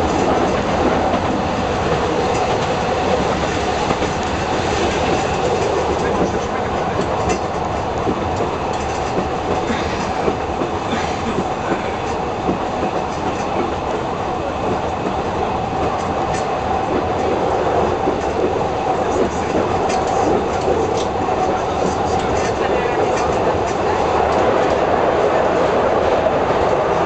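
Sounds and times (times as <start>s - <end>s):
railcar engine and wheel noise: 0.0s - 27.0s.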